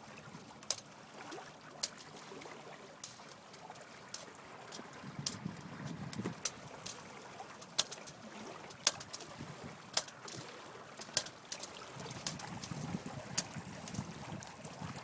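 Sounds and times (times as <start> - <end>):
rush of water and wind: 0.0 - 15.0
water slapping against hulls: 0.0 - 15.0.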